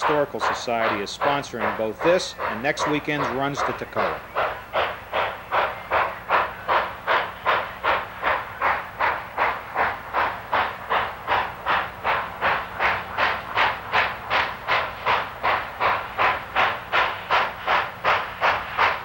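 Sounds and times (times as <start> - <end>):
steam locomotive exhaust chuffs: 0.0 - 19.0.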